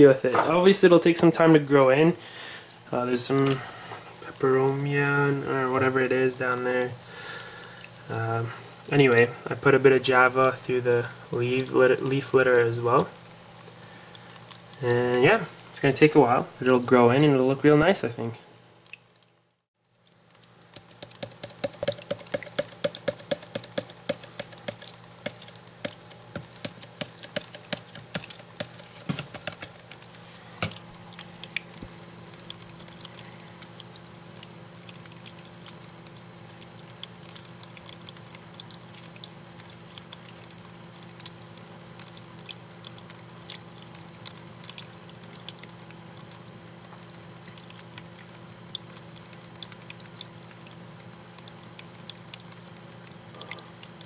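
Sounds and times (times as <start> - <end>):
low steady hum: 0.0 - 54.0
small waterfall trickling: 0.7 - 54.0.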